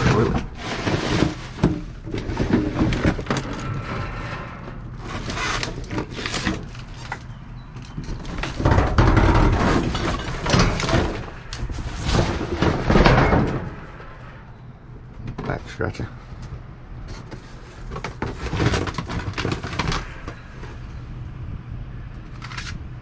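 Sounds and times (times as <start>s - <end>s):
clattering and rustling: 0.0s - 21.0s
junk knocking and scraping: 0.0s - 21.1s.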